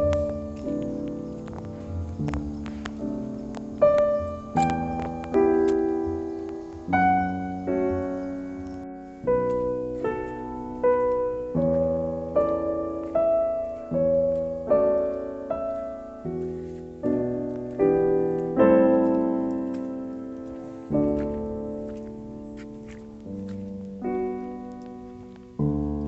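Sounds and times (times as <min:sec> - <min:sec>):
gentle piano chords: 0:00.0 - 0:26.0.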